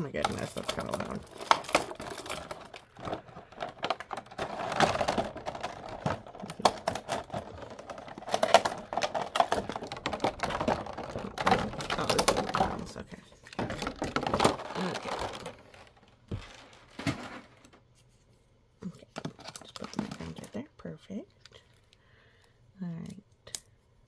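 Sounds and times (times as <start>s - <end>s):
plastic trays clicking and clattering: 0.0s - 17.8s, 19.1s - 20.6s.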